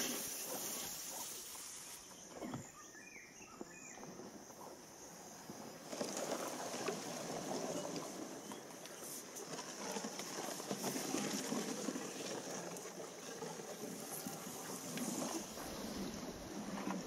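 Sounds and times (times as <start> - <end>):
reeds scraping along canoe hull: 0.0 - 2.8, 5.6 - 17.0.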